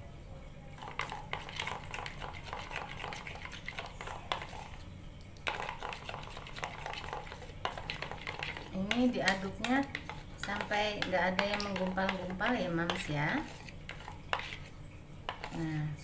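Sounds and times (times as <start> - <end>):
fork whisking batter in bowl: 0.8 - 4.8, 5.4 - 15.9.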